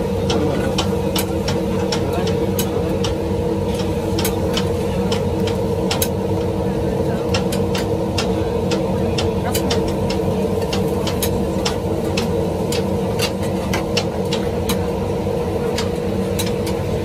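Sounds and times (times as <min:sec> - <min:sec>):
steady engine hum: 0:00.0 - 0:17.0.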